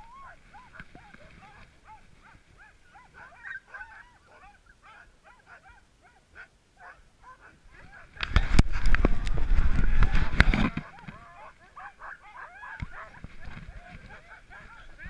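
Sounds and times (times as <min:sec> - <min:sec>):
dogs whining and yipping: 0:00.0 - 0:08.1, 0:10.7 - 0:15.0.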